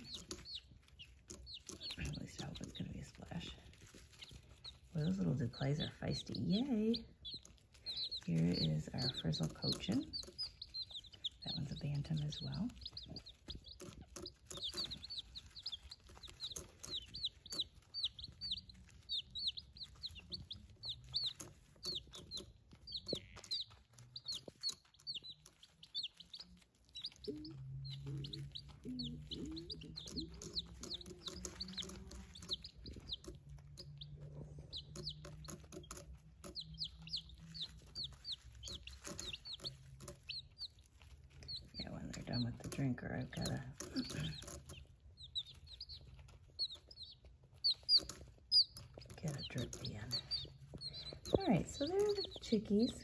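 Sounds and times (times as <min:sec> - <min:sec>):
chicks peeping: 0:00.0 - 0:53.0
scratching in wood shavings: 0:00.0 - 0:53.0.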